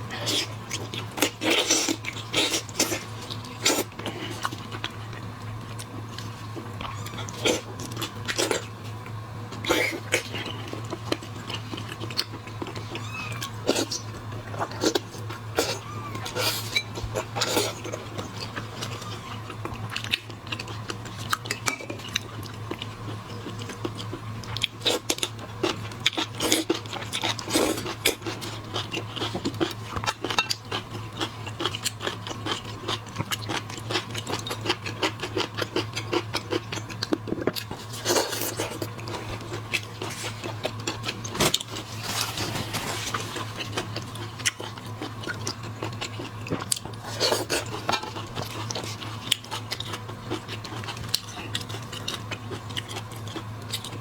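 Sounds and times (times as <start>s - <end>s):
chewing and sucking shellfish: 0.0s - 54.0s.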